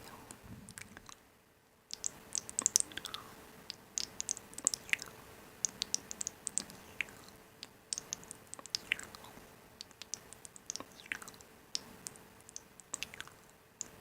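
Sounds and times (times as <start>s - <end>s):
crunchy chewing: 1.9s - 14.0s.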